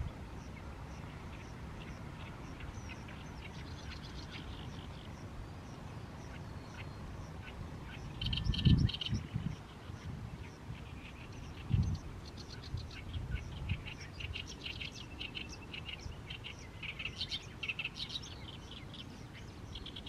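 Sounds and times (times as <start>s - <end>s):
reed warbler chattering song: 0.0s - 20.0s.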